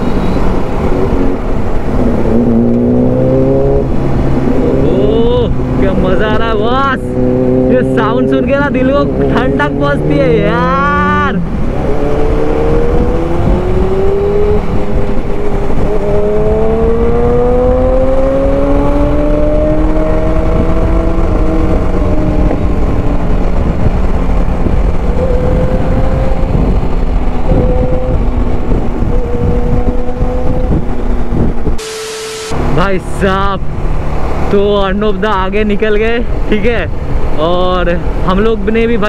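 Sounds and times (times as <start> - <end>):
motorcycle engines accelerating: 0.0 - 39.0
wind rush on microphone: 0.0 - 39.0.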